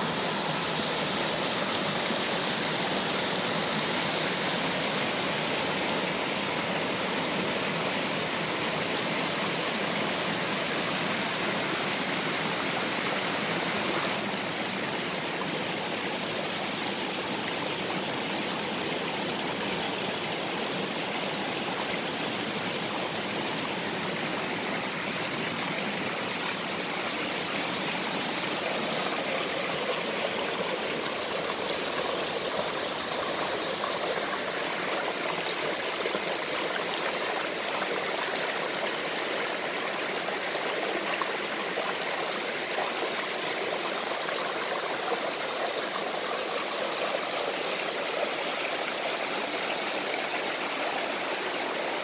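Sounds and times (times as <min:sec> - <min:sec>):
waterfall and stream rushing: 0:00.0 - 0:52.0.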